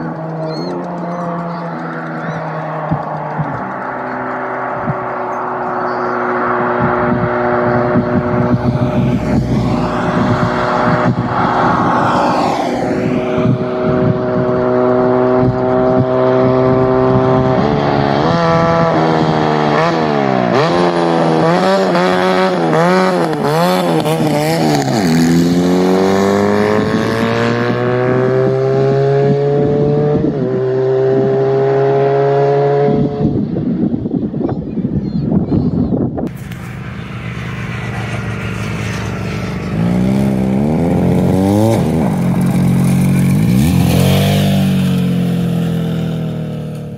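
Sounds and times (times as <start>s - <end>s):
car passing by: 0.0s - 30.0s, 36.3s - 46.9s
go-kart engine passing: 0.0s - 34.1s, 36.2s - 46.9s.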